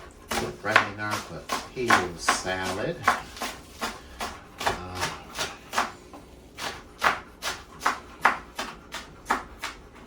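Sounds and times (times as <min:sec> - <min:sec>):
knife chopping on cutting board: 0:00.2 - 0:10.0.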